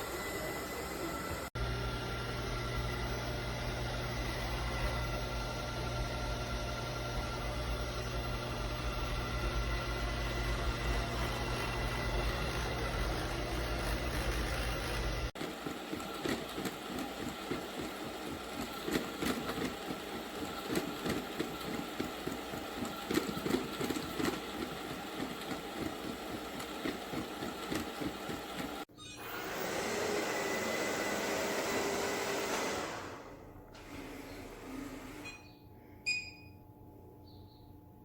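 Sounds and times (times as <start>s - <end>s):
robot vacuum cleaner humming: 0.0s - 35.3s.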